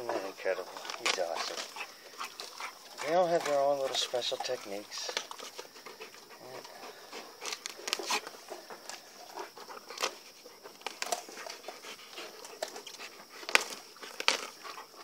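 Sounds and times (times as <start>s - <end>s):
jaws snapping on carcass: 0.8s - 4.0s, 5.1s - 6.0s, 6.6s - 15.0s
dog panting: 1.3s - 15.0s.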